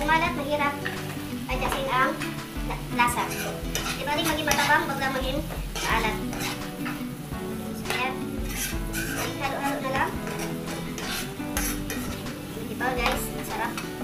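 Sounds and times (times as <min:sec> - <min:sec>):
background music: 0:00.0 - 0:14.0
oil sizzling: 0:00.0 - 0:14.0
spatula scraping frying pan: 0:00.0 - 0:14.0.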